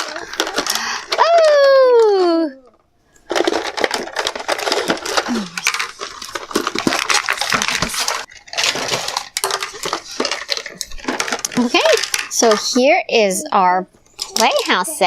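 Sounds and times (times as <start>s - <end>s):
plastic crinkling and clattering: 0.0s - 12.9s, 14.0s - 15.0s.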